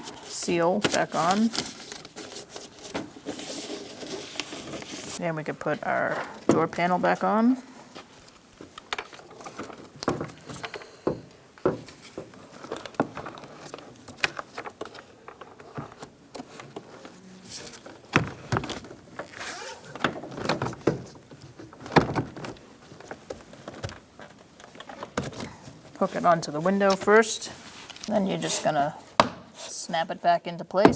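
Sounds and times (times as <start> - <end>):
rustling: 0.0 - 10.9, 11.7 - 29.8.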